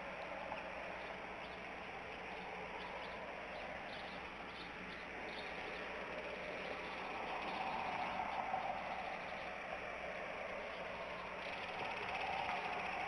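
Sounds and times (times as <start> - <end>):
faint bird chirps: 0.0 - 13.0
outdoor background hiss: 0.0 - 13.0.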